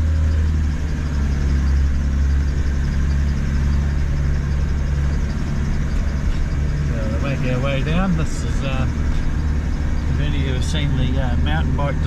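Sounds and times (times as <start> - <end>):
diesel engine deep drone: 0.0 - 12.0.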